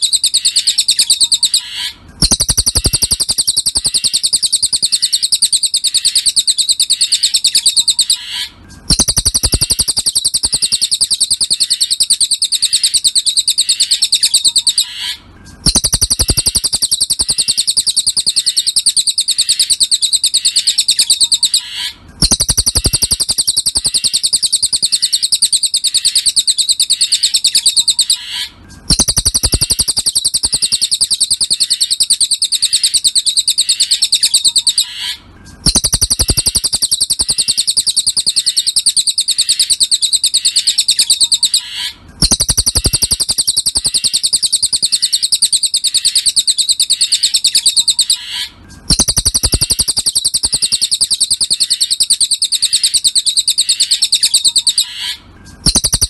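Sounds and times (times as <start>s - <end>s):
songbird chattering trill: 0.0s - 56.0s.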